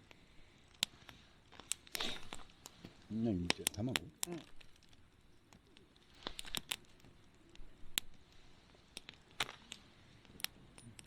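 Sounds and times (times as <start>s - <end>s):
campfire crackling and popping: 0.0s - 11.0s
faint hiss: 0.0s - 11.0s.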